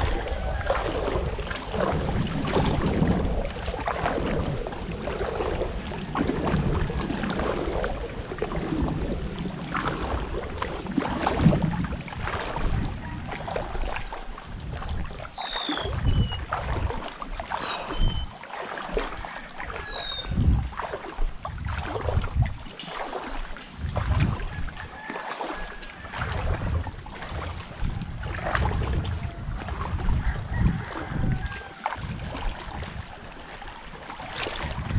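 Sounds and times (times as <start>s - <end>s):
water lapping and splashing: 0.0s - 34.9s
wind buffeting the microphone: 0.0s - 34.9s.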